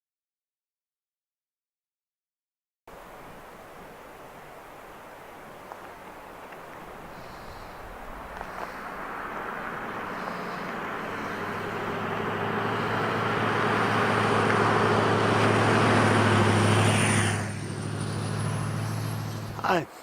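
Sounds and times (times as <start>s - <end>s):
vehicle engine hum: 2.9s - 19.9s
tyre and road noise: 2.9s - 20.0s.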